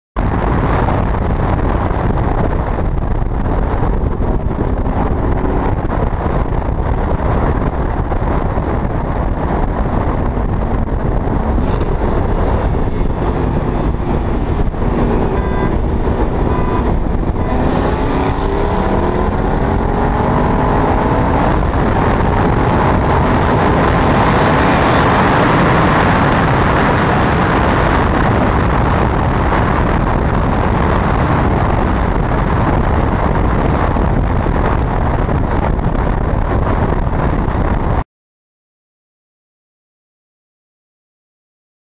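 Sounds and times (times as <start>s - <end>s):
car engine at full throttle: 0.2s - 38.0s
wind and road noise: 0.2s - 38.0s.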